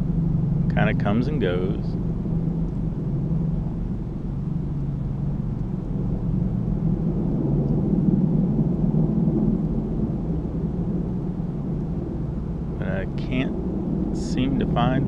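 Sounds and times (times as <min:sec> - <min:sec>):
heavy low droning rumble: 0:00.0 - 0:15.0.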